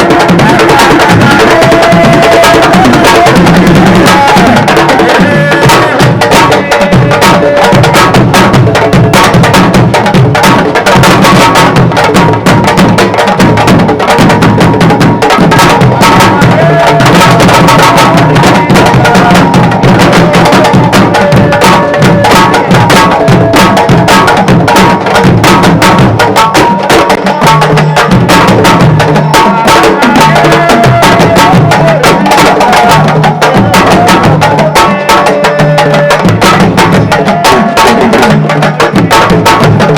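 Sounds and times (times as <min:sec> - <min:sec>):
drums played fast: 0:00.0 - 0:39.9.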